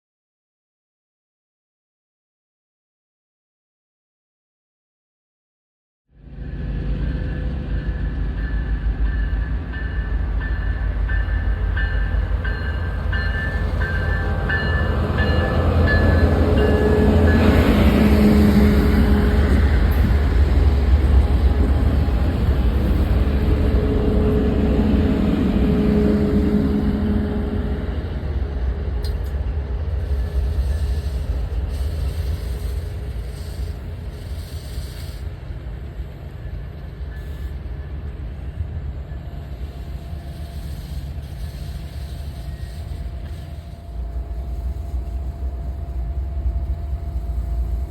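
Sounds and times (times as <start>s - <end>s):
passenger train rumbling past: 6.1s - 47.9s.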